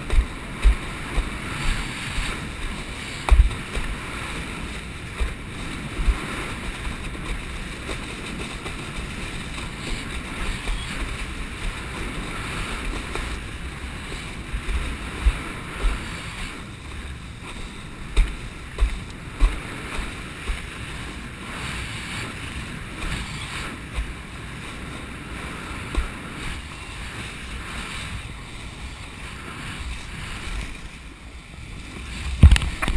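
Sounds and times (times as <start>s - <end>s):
water rushing past board: 0.0s - 32.9s
wind buffeting microphone: 0.0s - 32.9s.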